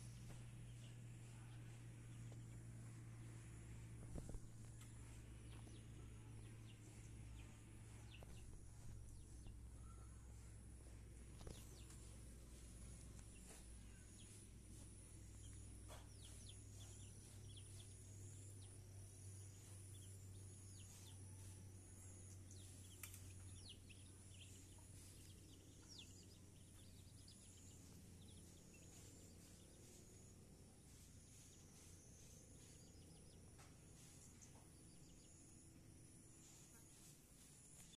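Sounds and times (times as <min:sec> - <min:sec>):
bird chirps: 0:00.0 - 0:35.8.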